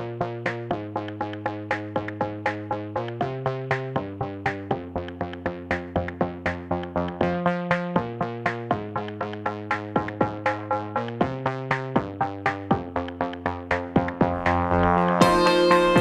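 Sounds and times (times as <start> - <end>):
steady electronic beat: 0.0 - 16.0
synthesizer chords: 0.0 - 16.0.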